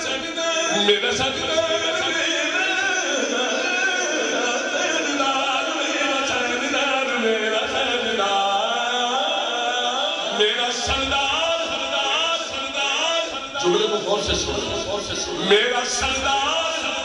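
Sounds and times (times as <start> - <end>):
man chanting into microphone: 0.0 - 17.0.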